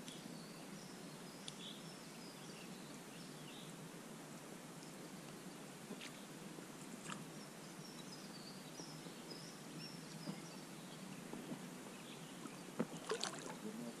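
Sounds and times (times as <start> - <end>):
river and forest hiss: 0.0 - 14.0.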